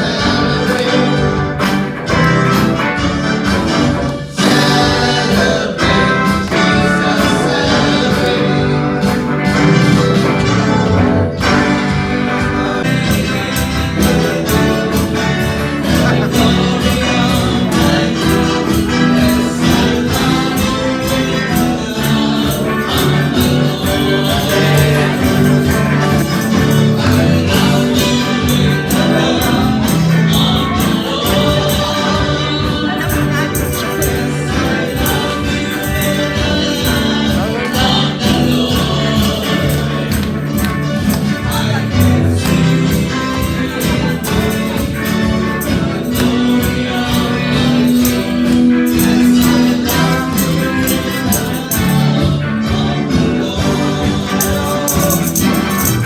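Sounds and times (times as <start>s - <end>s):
worship song with singing: 0.0s - 56.0s.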